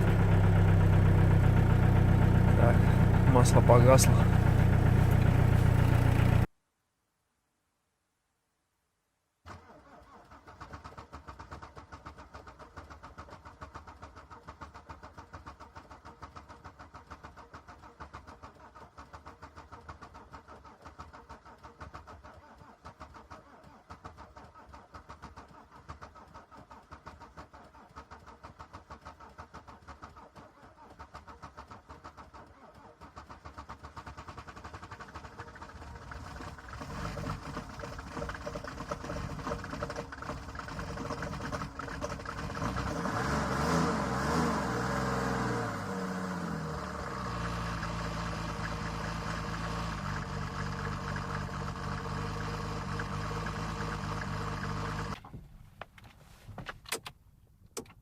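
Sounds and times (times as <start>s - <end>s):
diesel engine cold start: 0.0s - 6.5s, 9.4s - 55.7s.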